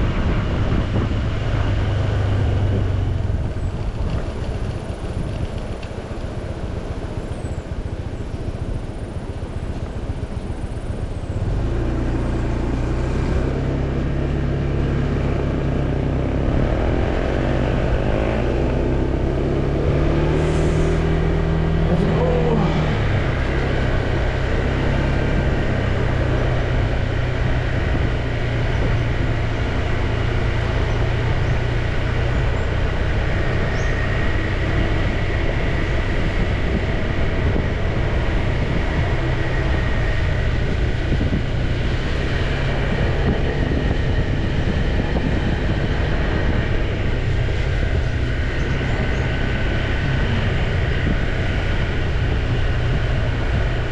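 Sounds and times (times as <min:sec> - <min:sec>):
motorcycle engine running: 0:00.0 - 0:53.9
wind and road noise: 0:00.0 - 0:53.9.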